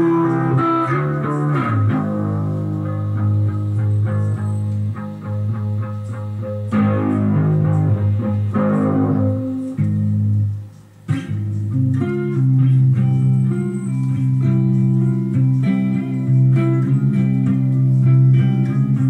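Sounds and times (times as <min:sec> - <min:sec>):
electric guitar playing: 0:00.0 - 0:19.0.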